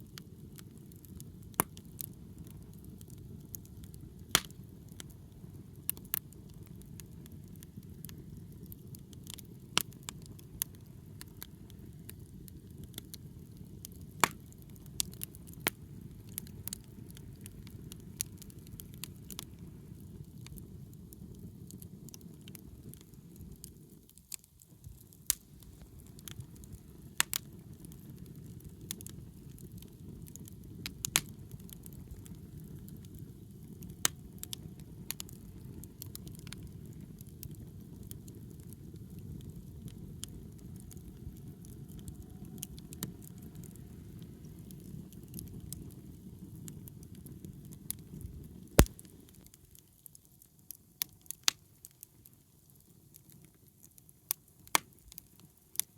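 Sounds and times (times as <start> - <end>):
campfire burning: 0.0 - 55.9
fire crackles and pops: 0.0 - 55.9.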